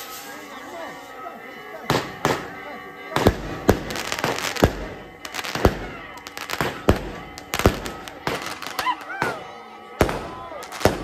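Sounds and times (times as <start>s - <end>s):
fireworks crackling: 0.0s - 11.0s
fireworks bangs: 1.9s - 11.0s.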